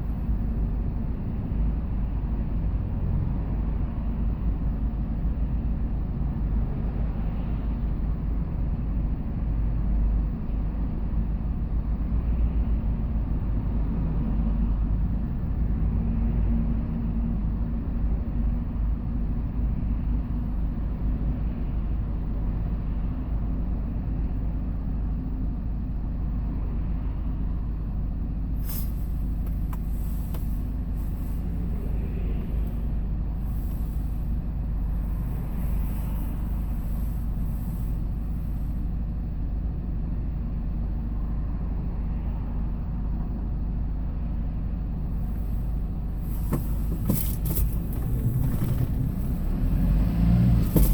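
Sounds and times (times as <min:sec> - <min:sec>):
truck engine and road rumble: 0:00.0 - 0:50.9.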